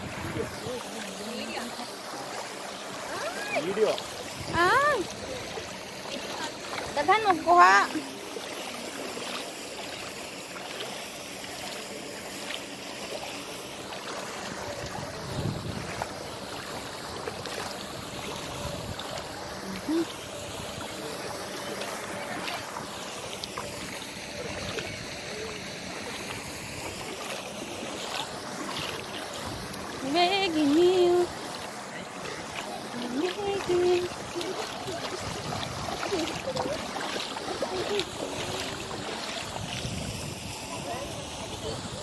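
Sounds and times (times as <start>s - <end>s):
lake water: 0.0s - 42.0s
wind: 0.0s - 42.0s.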